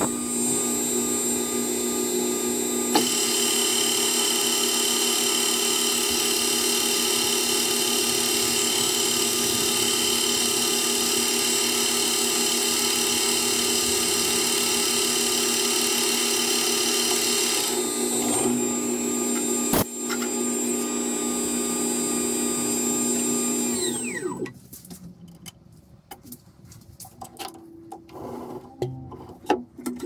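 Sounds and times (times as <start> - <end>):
metal lathe whining: 0.0 - 24.5
spindle winding down: 0.0 - 24.5.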